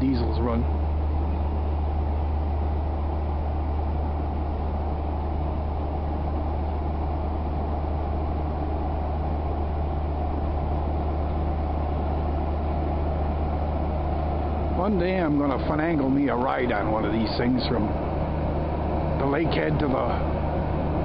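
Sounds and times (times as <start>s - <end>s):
ship diesel engines humming: 0.0s - 21.0s.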